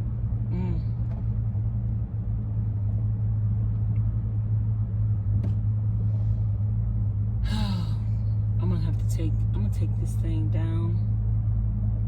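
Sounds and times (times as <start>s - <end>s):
motor vehicle engine rumbling: 0.0s - 12.0s.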